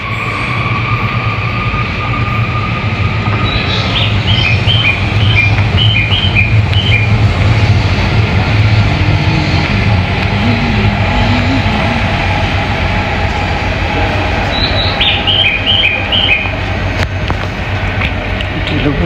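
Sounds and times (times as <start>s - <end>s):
electric train hum: 0.0s - 19.0s
high whine: 0.0s - 19.0s.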